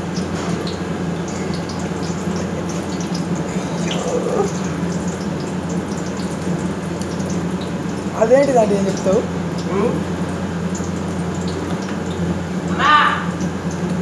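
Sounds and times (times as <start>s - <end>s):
balls deep-frying in oil: 0.0s - 12.7s, 13.3s - 14.0s.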